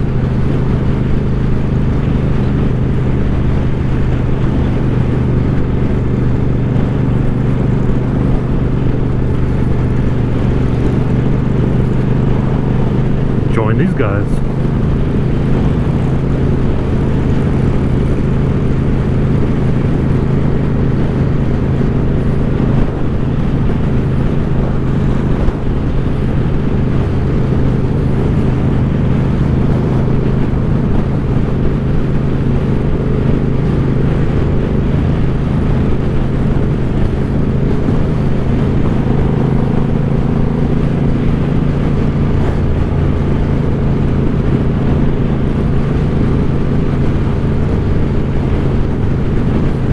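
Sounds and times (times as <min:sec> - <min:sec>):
motorcycle engine running: 0:00.0 - 0:13.5, 0:14.4 - 0:49.9.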